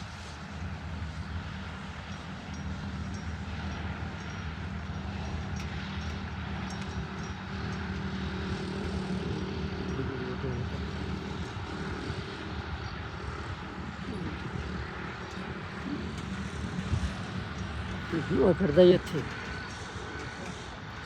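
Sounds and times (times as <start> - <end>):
low engine-like drone: 0.0 - 21.0.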